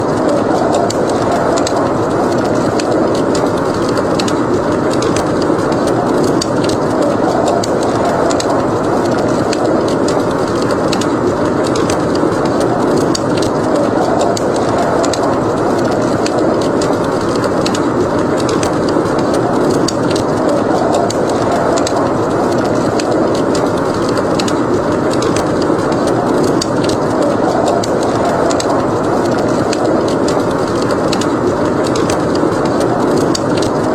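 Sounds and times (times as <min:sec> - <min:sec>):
gusting wind: 0:00.0 - 0:33.9
wood fire crackling: 0:00.0 - 0:33.9.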